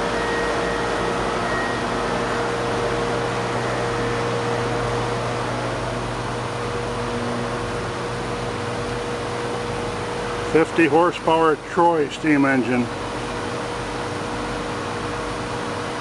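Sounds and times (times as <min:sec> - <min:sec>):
machinery hum and hiss: 0:00.0 - 0:16.0
mid-pitched whine: 0:00.0 - 0:16.0.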